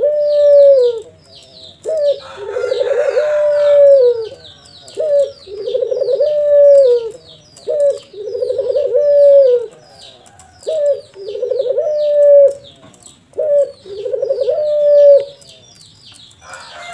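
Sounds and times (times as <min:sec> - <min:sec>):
dove cooing: 0:00.0 - 0:15.6
small birds chirping: 0:00.0 - 0:16.9.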